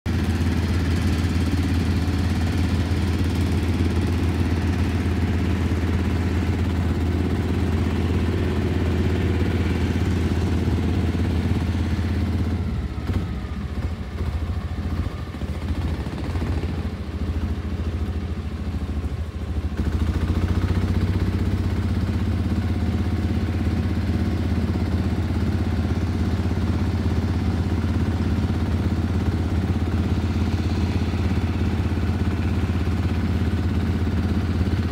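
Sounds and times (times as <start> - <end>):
boat engine humming: 0.1 - 34.9.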